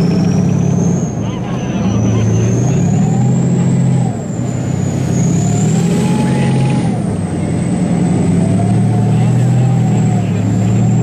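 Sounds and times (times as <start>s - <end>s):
tank diesel engine running hard: 0.0s - 11.0s.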